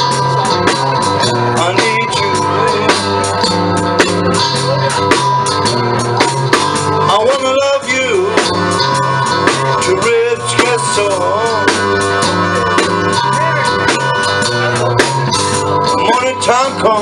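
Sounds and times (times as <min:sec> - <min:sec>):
blues band playing: 0:00.0 - 0:17.0
drum kit beat: 0:00.0 - 0:17.0
lead line bending notes: 0:00.0 - 0:17.0
low bass notes: 0:00.0 - 0:17.0.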